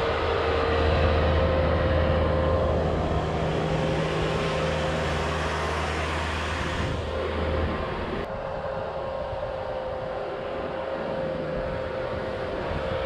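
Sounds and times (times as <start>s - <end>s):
faint steady whine: 0.0s - 13.0s
loader diesel engine running: 0.0s - 13.0s.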